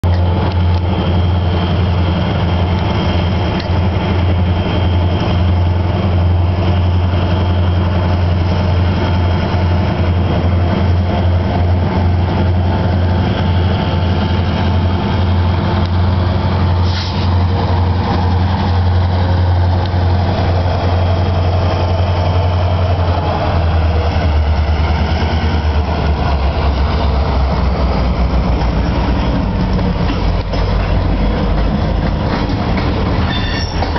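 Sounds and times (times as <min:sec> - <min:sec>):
locomotive engine drone: 0:00.0 - 0:33.9.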